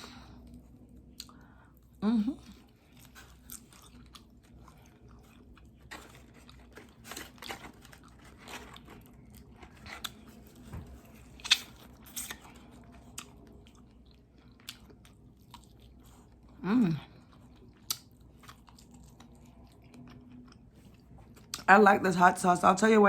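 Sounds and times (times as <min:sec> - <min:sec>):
crisp crunches of chewing: 0:02.4 - 0:21.7.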